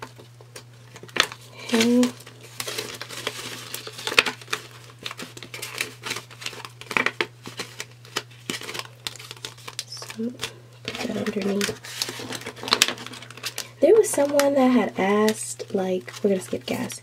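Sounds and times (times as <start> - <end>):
steady low hum: 0.0 - 17.0
paper banknotes rustling: 0.9 - 17.0.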